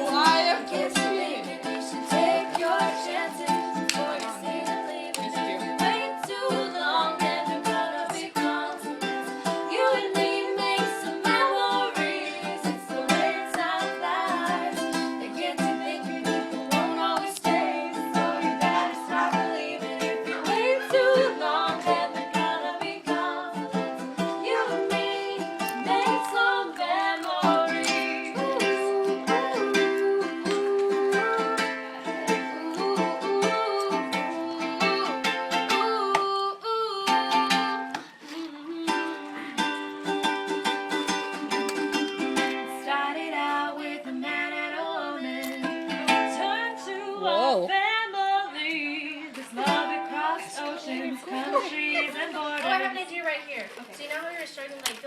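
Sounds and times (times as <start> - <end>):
person singing: 0.0 - 52.8
strummed ukulele: 0.0 - 52.8.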